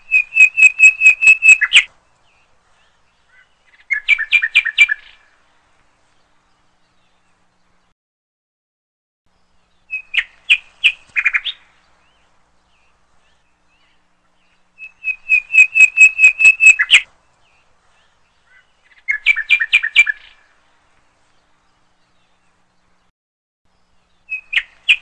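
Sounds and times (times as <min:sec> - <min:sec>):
bird chirping: 0:00.0 - 0:07.9, 0:09.3 - 0:23.1, 0:23.7 - 0:25.0.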